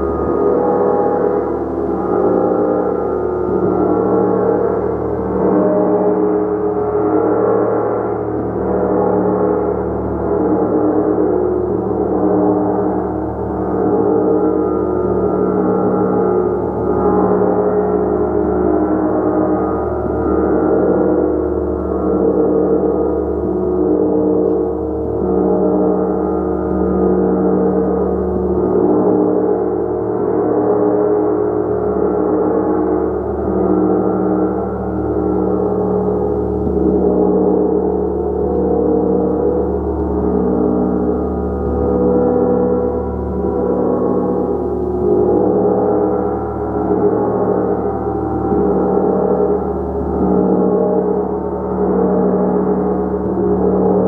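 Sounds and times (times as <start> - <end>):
gong ringing: 0.0 - 54.0.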